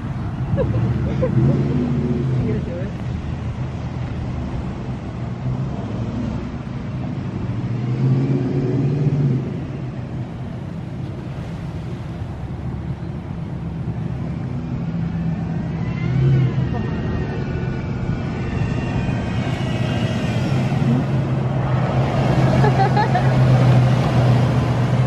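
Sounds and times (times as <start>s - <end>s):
trucks driving past: 0.0s - 25.0s.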